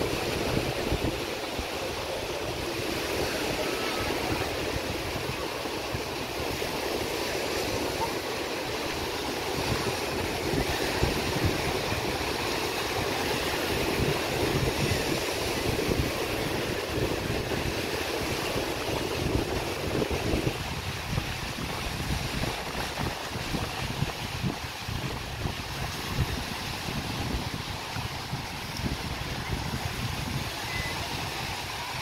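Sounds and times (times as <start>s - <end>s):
sea surf on a beach: 0.0s - 32.0s
wind buffeting microphone: 0.0s - 32.0s.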